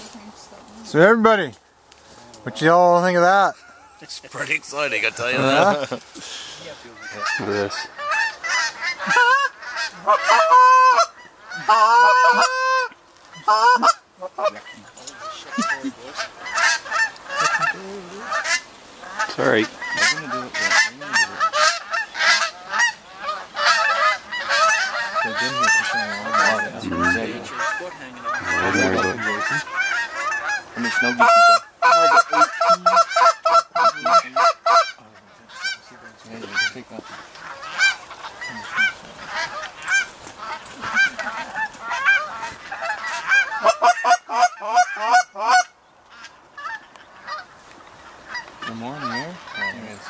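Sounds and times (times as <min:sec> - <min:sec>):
geese honking: 0:02.0 - 0:50.0.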